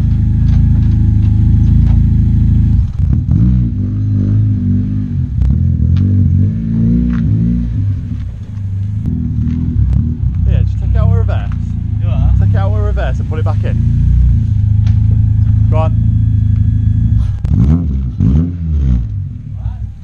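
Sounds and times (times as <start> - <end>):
car exhaust revving: 0.0 - 20.0.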